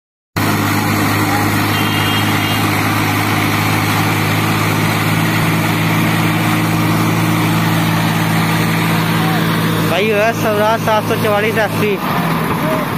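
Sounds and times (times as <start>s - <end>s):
tractor diesel engine running: 0.4s - 12.9s.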